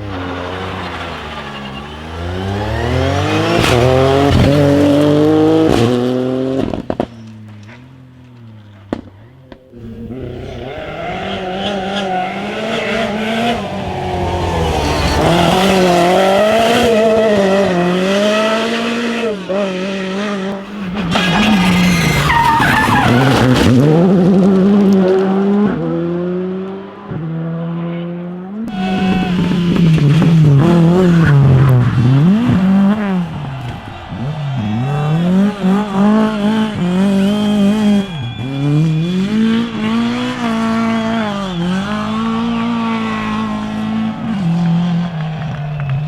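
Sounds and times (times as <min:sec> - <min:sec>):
tyres skidding: 0:00.0 - 0:27.1, 0:28.7 - 0:46.0
rally car engines revving: 0:00.0 - 0:46.0.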